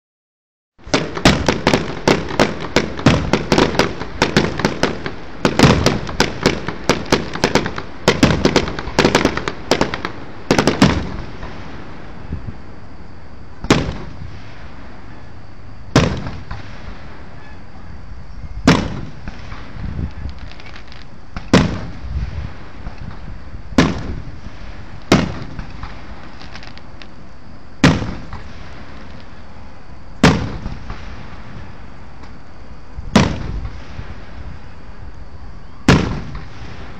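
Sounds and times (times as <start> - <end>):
fireworks bangs: 0.8 - 12.1, 13.6 - 15.2, 15.9 - 17.8, 18.6 - 27.1, 27.8 - 29.4, 30.2 - 32.3, 33.1 - 34.9, 35.8 - 36.9.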